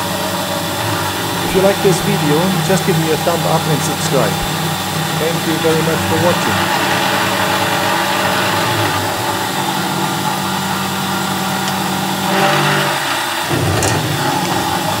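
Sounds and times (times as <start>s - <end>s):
milling machine motor hum: 0.0s - 15.0s.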